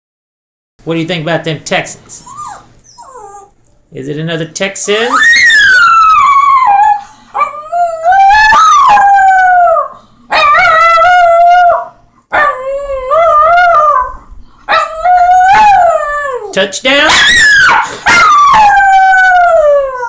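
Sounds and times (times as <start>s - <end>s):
dog howling: 2.3s - 3.6s, 5.1s - 20.0s.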